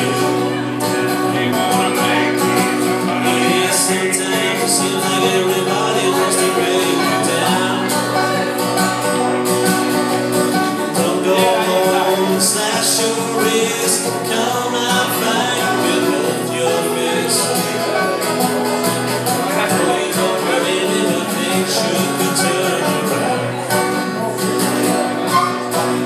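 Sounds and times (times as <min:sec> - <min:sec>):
banjo picking: 0:00.0 - 0:26.0
strummed acoustic guitar: 0:00.0 - 0:26.0.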